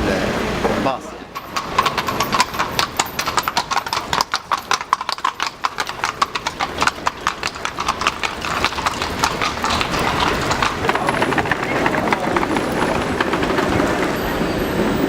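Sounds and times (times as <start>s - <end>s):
horse hooves clopping on street: 0.4s - 15.0s.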